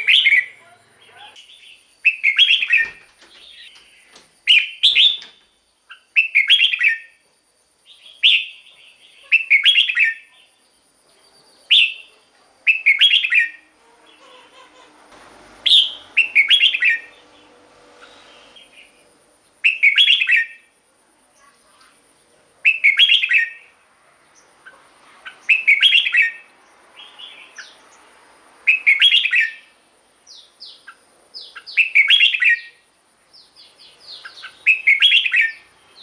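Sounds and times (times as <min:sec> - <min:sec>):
bird singing warbled phrases: 0:00.0 - 0:07.2, 0:07.8 - 0:15.0, 0:15.6 - 0:20.7, 0:22.6 - 0:28.0, 0:28.6 - 0:36.0.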